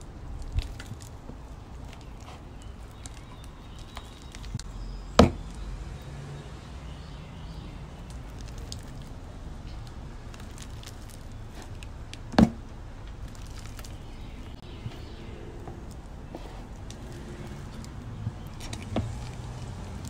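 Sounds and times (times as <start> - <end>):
hands kneading sticky slime: 0.2 - 5.6, 7.0 - 12.4, 13.1 - 20.0.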